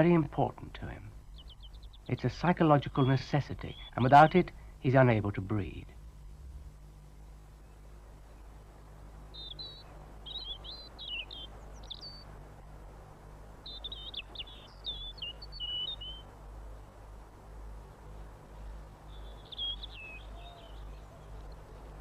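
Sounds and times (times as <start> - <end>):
robin singing: 0.0 - 22.0.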